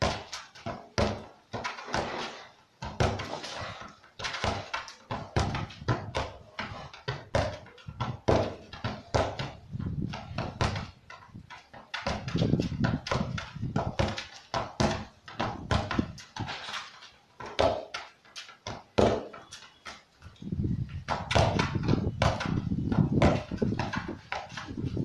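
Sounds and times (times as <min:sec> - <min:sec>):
football thudding against a wall: 0:00.0 - 0:16.8, 0:17.4 - 0:19.5, 0:20.9 - 0:25.0.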